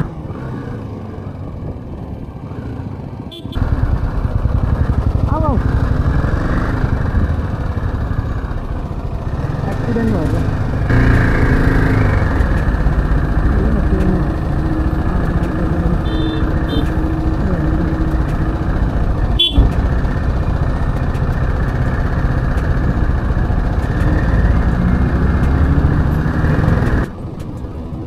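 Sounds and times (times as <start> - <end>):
motorcycle engine running: 0.0 - 28.0
road and wind noise: 0.0 - 28.0.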